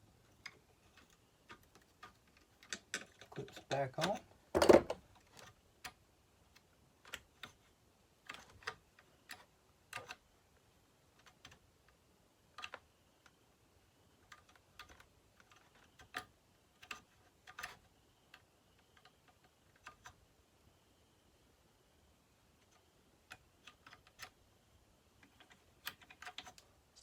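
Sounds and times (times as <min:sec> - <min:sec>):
small parts and tools clicking: 0:00.2 - 0:10.3, 0:11.0 - 0:13.4, 0:14.1 - 0:20.2, 0:22.6 - 0:24.4, 0:25.2 - 0:27.0.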